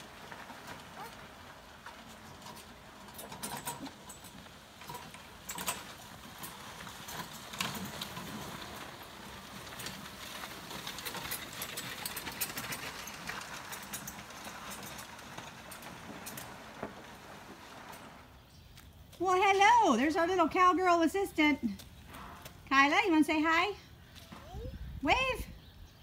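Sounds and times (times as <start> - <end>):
golf cart towing grader rattling: 0.0 - 23.2.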